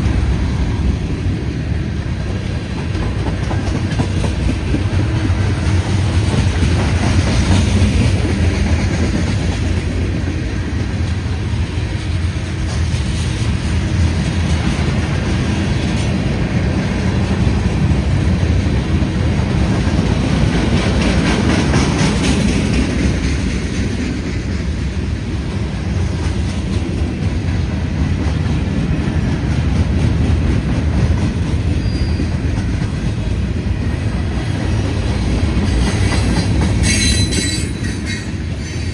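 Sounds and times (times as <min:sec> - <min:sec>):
freight train rumbling: 0:00.0 - 0:38.9.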